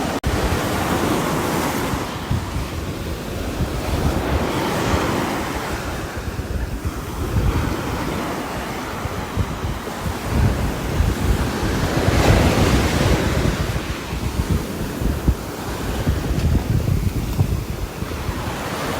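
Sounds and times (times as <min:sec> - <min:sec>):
strong gusting wind: 0:00.0 - 0:18.9.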